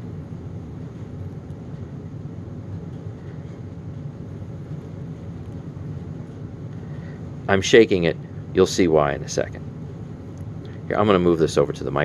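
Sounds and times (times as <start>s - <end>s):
heating system humming: 0.0s - 12.0s.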